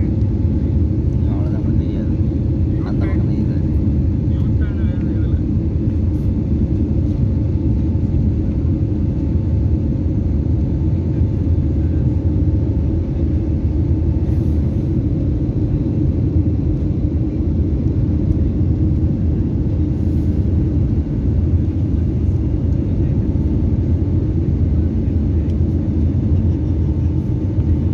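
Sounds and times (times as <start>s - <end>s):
airliner engine rumble: 0.0s - 27.9s
faint constant hum tones: 0.0s - 27.9s.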